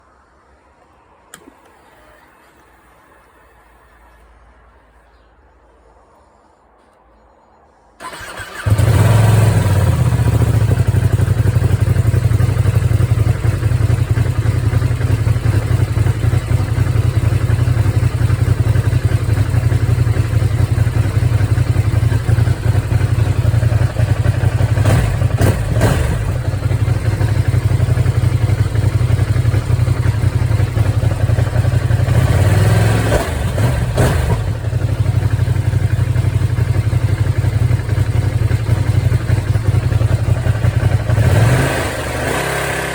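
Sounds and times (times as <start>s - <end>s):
motorcycle engine idling: 8.0s - 42.9s
motorcycle engine revving: 8.0s - 42.9s.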